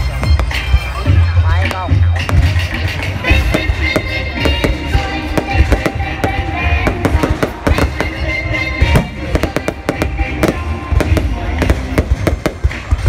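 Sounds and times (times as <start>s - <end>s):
fireworks bangs and crackles: 0.0s - 13.0s
loud music: 0.0s - 13.0s.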